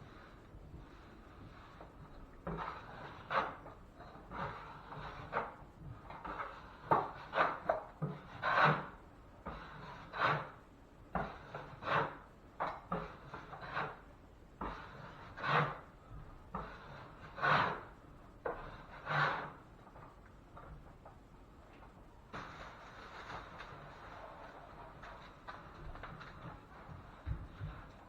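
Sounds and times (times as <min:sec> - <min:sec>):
drywall knife scraping compound: 0:01.0 - 0:10.6, 0:11.2 - 0:15.9, 0:16.5 - 0:19.7, 0:22.3 - 0:28.0.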